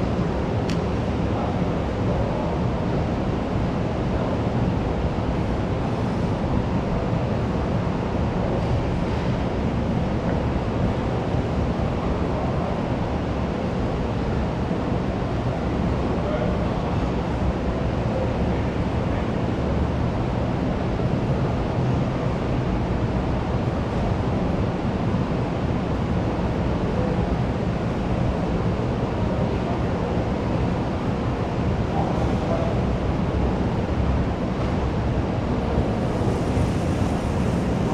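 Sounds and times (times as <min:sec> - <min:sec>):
hubbub of many voices: 0:00.0 - 0:37.9.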